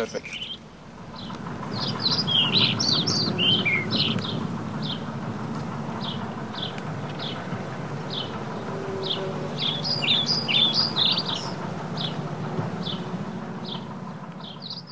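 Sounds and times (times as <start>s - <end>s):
songbird chirping: 0.0s - 14.9s
low rumble: 0.3s - 14.9s.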